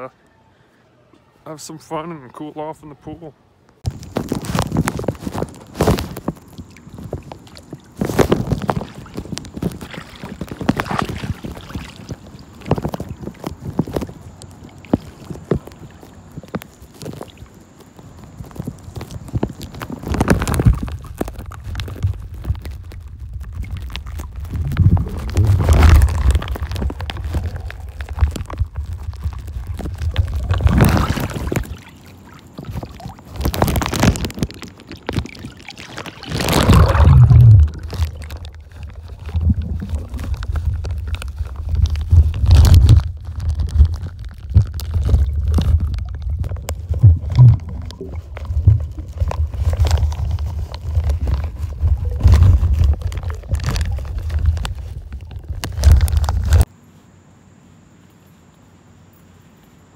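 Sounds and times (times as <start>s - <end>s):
muffled underwater rumble: 3.8s - 56.6s
water splashes: 3.8s - 56.7s.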